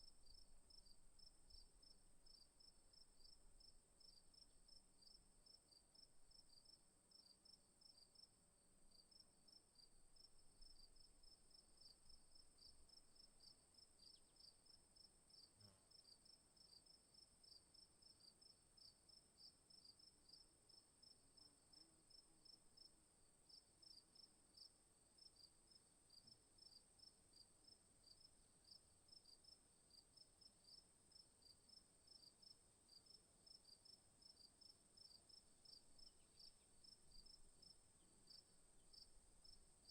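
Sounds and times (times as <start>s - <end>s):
insect chirps: 0.0s - 39.9s.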